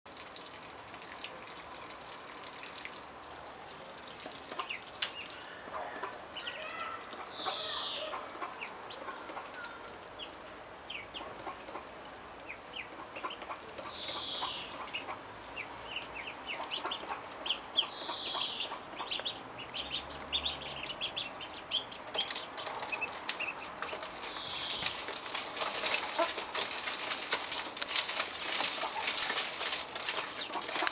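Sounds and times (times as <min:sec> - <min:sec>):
ducklings peeping: 0:03.8 - 0:30.9.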